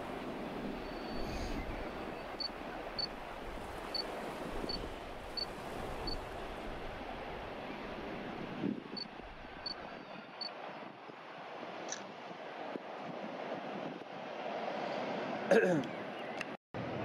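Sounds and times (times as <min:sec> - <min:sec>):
wind on microphone: 0:00.0 - 0:15.5
sea waves: 0:00.0 - 0:16.2.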